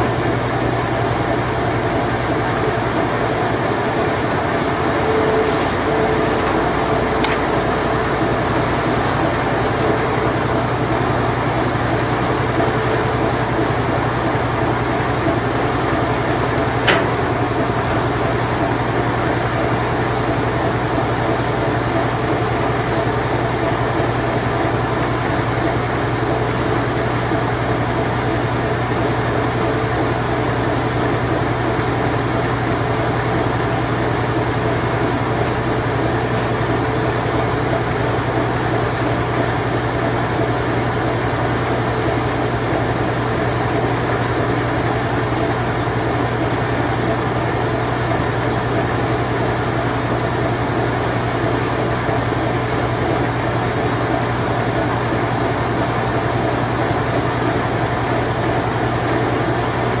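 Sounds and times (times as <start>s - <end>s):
washing machine spin cycle: 0.0s - 60.0s.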